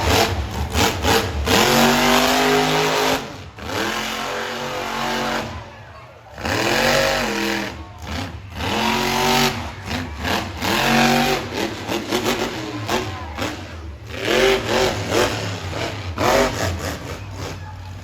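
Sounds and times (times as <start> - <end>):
truck engine revving: 0.0 - 5.7, 6.3 - 18.0.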